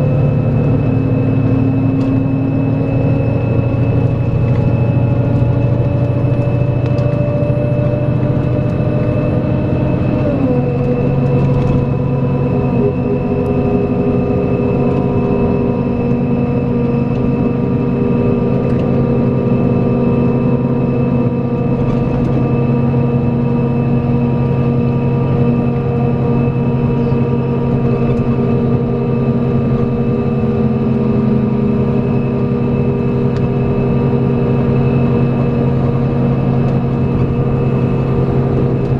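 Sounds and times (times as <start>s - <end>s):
coach diesel engine running: 0.0s - 38.9s.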